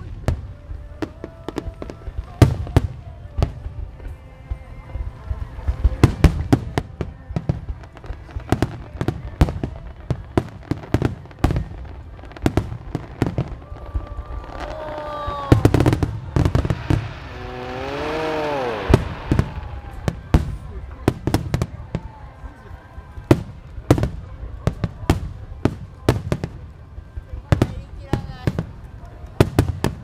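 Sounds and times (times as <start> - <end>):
fireworks bursts and bangs: 0.0 - 30.0.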